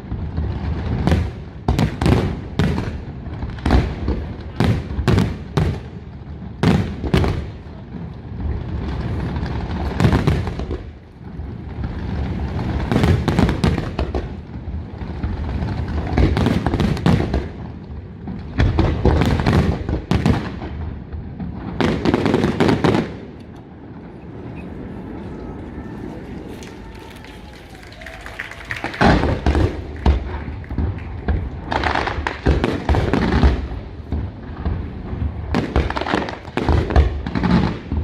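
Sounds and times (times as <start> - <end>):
fireworks bursting: 0.0 - 38.0.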